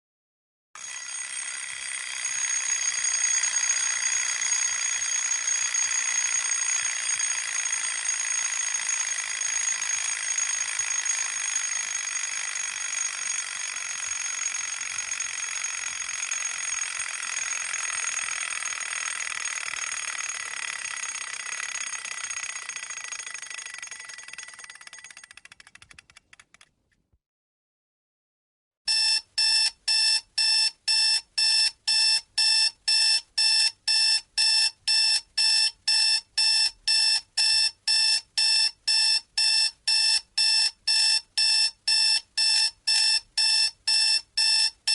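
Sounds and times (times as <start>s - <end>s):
alarm clock ringing: 0.8s - 25.2s, 28.9s - 44.9s.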